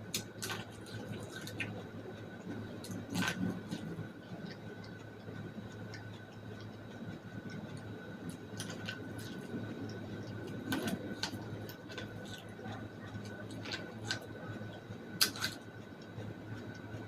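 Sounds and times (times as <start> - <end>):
biting and chewing corn: 0.0 - 1.8, 2.8 - 15.8
low hum: 0.0 - 17.0.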